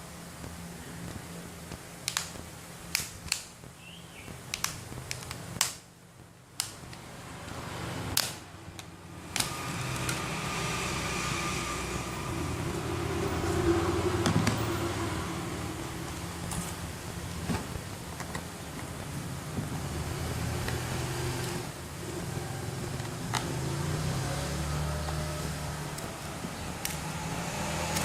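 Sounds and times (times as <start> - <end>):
fan whirring with low hum: 0.0 - 28.0.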